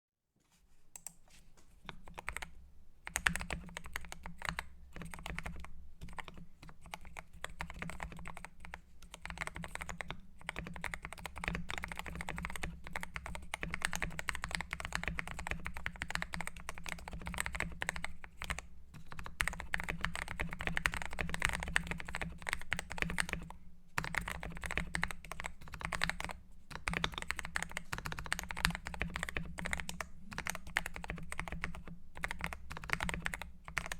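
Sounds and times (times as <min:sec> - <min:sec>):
fast mechanical keyboard typing: 0:01.9 - 0:02.5, 0:03.1 - 0:33.9.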